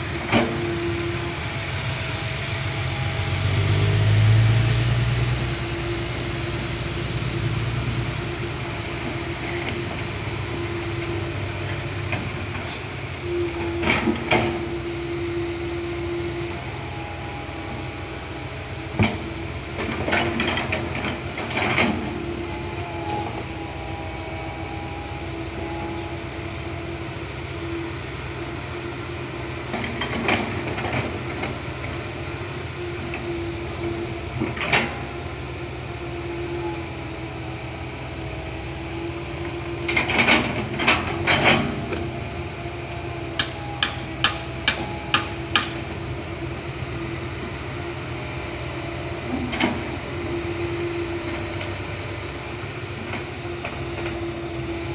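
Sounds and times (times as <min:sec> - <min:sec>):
excavator diesel engine running: 0:00.0 - 0:54.9
hydraulic whine: 0:00.0 - 0:54.9.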